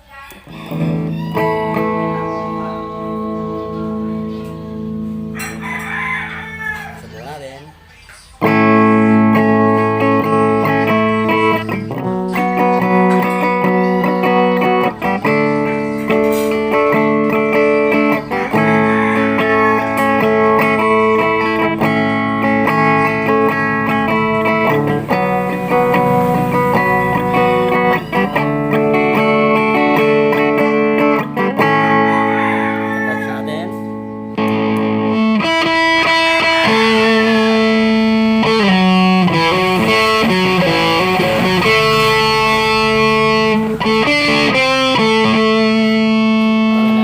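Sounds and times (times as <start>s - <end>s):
clean electric guitar chords: 0.7s - 5.6s, 8.4s - 32.9s, 33.6s - 47.0s.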